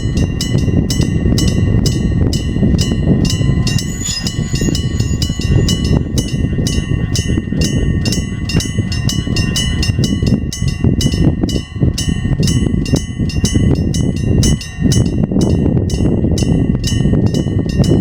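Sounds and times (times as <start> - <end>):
level crossing electric bell: 0.0 - 18.0
train rumble: 0.0 - 18.0.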